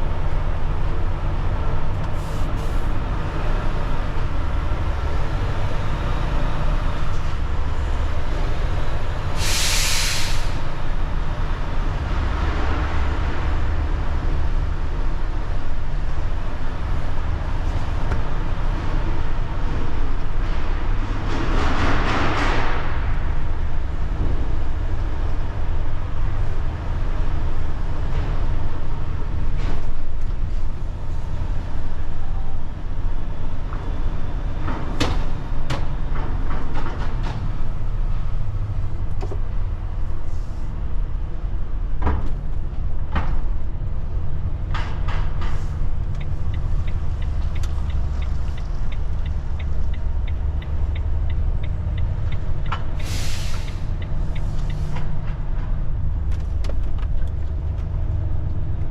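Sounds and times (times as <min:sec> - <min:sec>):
heavy vehicle engine rumble: 0:00.0 - 0:58.9.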